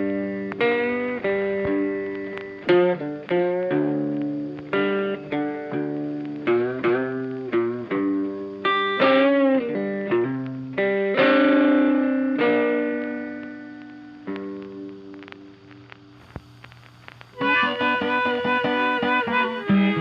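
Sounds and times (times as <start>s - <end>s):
guitar plucking single notes: 0.0s - 16.3s, 17.0s - 20.0s.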